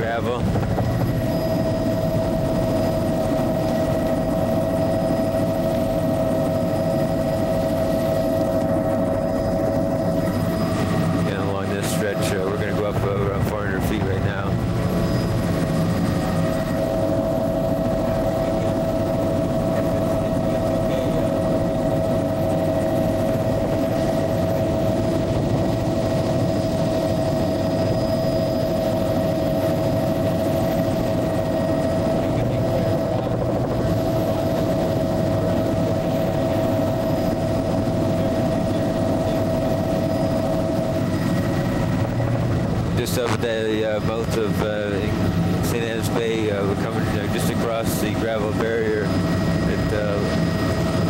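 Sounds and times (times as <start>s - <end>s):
constant whine: 0.0s - 51.0s
helicopter engine and rotor drone: 0.0s - 51.0s.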